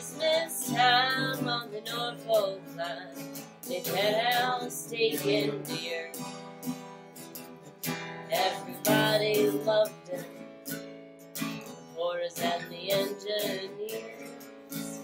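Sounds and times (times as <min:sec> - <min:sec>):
woman singing: 0:00.0 - 0:06.5, 0:08.2 - 0:10.5, 0:11.4 - 0:15.0
strummed acoustic guitar: 0:00.0 - 0:15.0.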